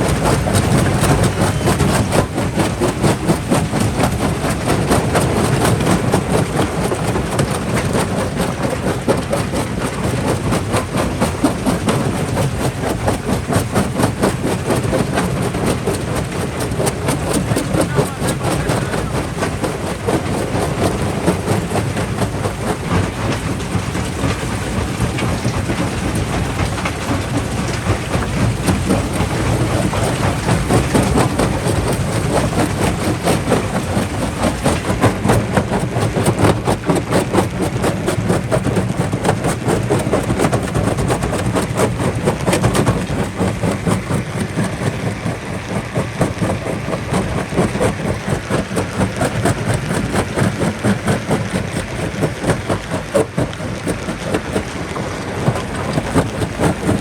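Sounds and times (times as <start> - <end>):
low machine drone: 0.0 - 57.0.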